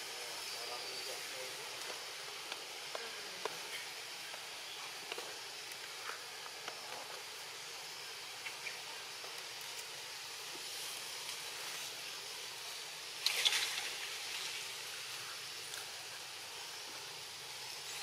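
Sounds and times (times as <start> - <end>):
constant high hiss: 0.0 - 18.0.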